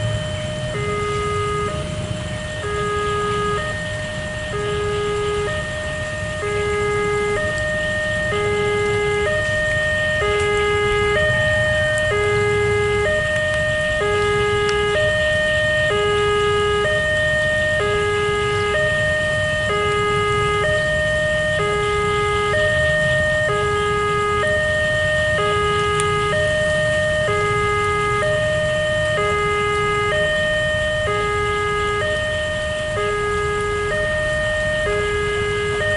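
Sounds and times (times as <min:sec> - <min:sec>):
two-tone crossing alarm chime: 0:00.0 - 0:35.9.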